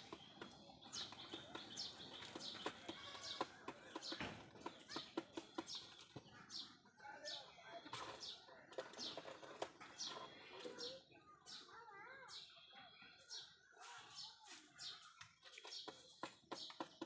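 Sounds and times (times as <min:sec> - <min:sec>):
pigeons pecking grain on concrete: 0:00.0 - 0:11.6, 0:14.0 - 0:17.0.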